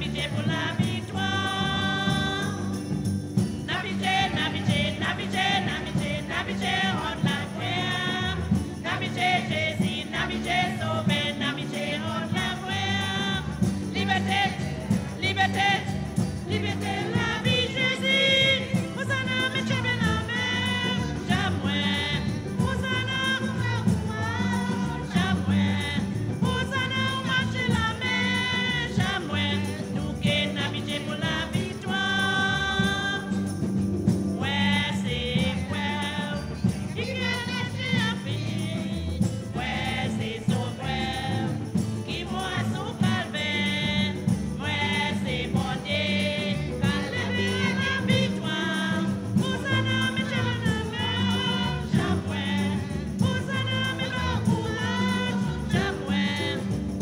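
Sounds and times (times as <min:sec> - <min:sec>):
congregation and choir singing hymn: 0:00.0 - 0:57.0
jingling percussion: 0:00.0 - 0:57.0.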